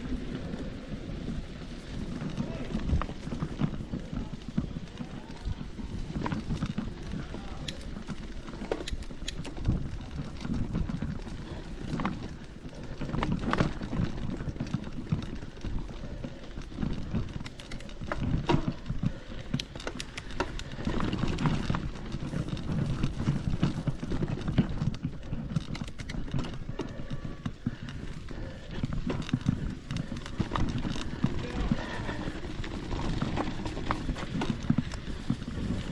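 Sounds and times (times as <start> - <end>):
footsteps on forest trail: 0.1 - 35.9.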